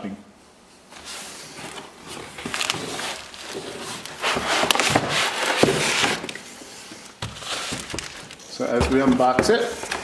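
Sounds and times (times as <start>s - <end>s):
cardboard flaps scraping: 1.0s - 10.0s.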